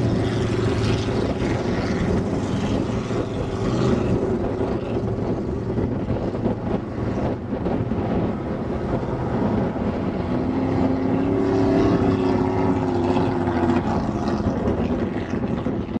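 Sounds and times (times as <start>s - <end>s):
powerboat engine passing at speed: 0.0s - 16.0s.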